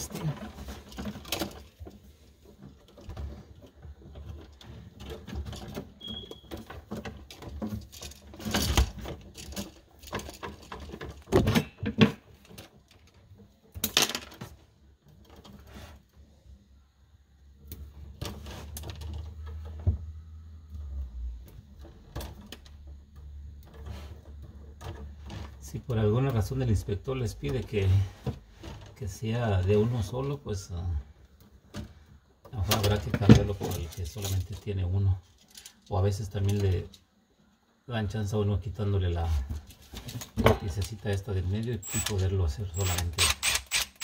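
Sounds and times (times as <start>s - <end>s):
wires rustling and clicking: 0.0s - 16.3s, 17.4s - 37.6s, 38.2s - 44.0s.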